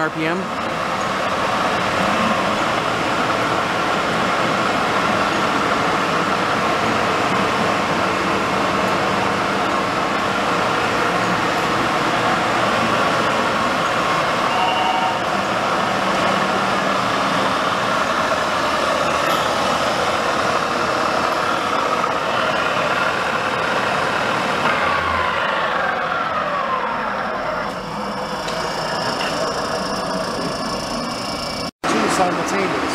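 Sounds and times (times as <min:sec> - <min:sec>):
lathe running with mechanical whine: 0:00.0 - 0:32.9.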